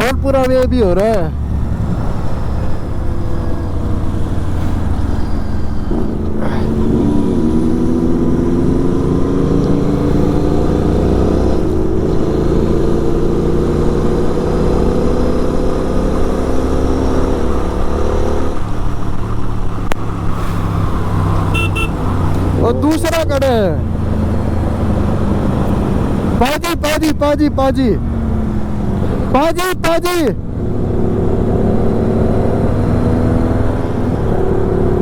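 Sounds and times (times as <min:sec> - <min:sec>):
motorcycle engine riding: 0:00.0 - 0:29.5, 0:30.2 - 0:35.0.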